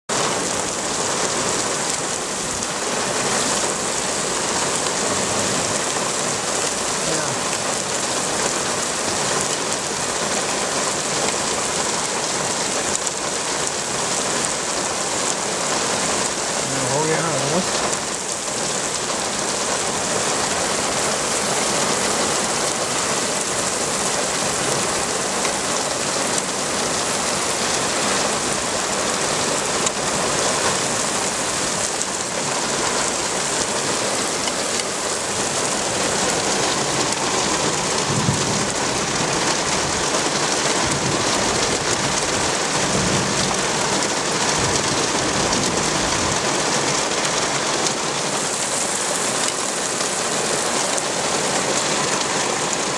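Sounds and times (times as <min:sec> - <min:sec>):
heavy rain pouring: 0:00.1 - 0:52.9.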